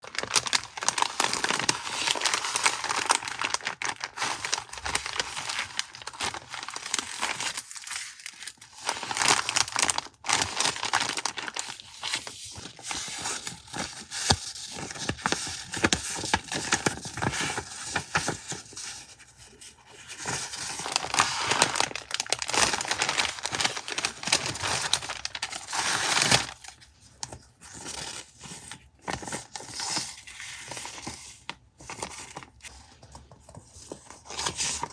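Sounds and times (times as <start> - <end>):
packaging crinkling and tearing: 0.0 - 34.9.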